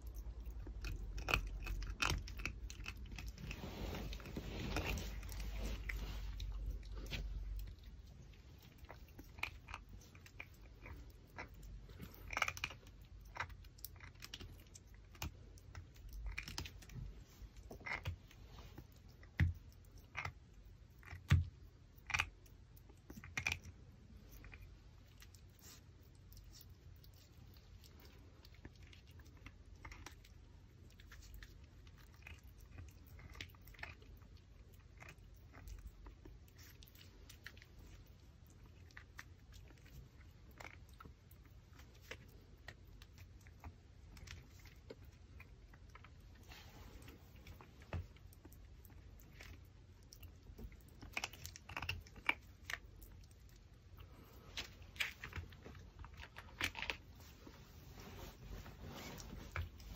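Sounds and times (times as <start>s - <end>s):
dog gnawing on bone: 0.0s - 46.4s, 47.0s - 57.1s.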